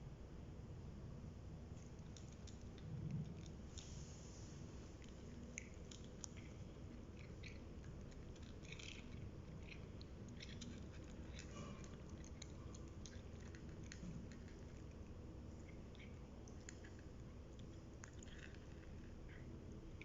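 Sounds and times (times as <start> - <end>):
low background hum: 0.0 - 20.0
cats chewing food: 1.8 - 20.0.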